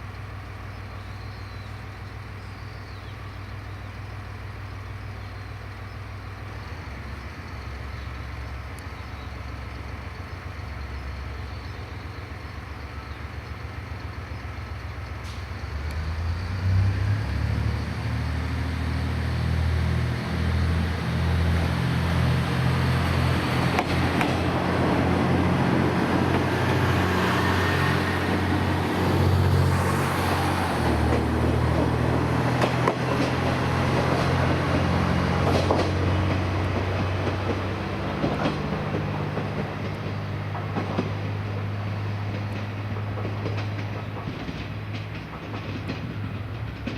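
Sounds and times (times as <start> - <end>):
diesel railcar engine: 0.0 - 46.9.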